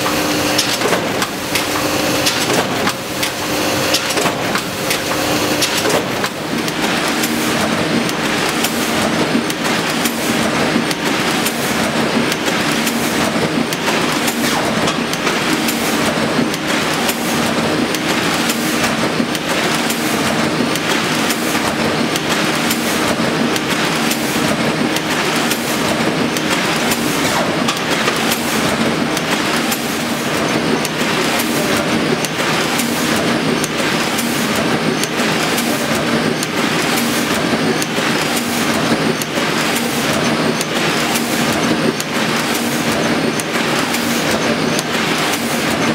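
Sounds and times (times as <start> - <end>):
printing press clatter: 0.0 - 45.9.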